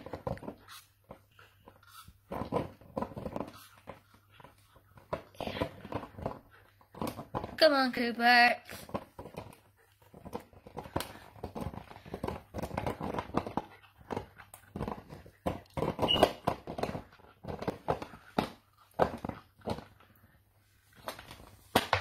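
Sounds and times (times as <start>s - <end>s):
dog chewing plastic bottle: 0.0s - 7.6s, 8.7s - 22.0s.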